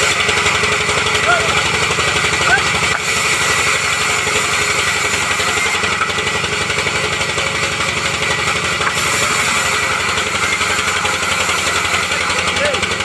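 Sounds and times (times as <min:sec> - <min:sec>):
sawmill engine pulsing: 0:00.0 - 0:13.0.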